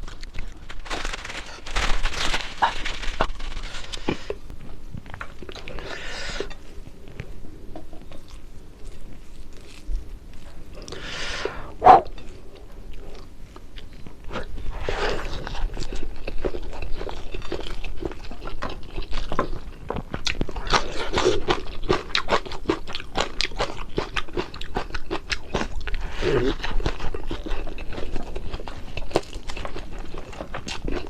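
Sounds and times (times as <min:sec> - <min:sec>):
chewing crispy fried fish: 0:00.0 - 0:11.1, 0:12.0 - 0:31.0.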